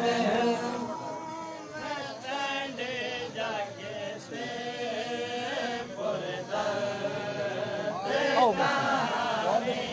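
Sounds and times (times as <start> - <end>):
man chanting a lament: 0.0 - 9.9.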